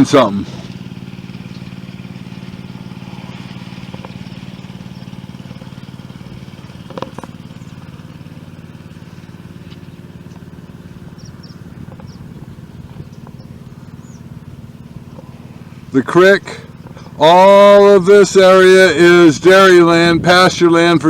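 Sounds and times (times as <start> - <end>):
water pump engine running: 0.0 - 21.0.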